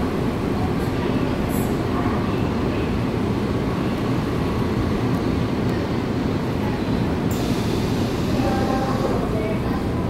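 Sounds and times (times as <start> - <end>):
subway car rumble: 0.0 - 10.0.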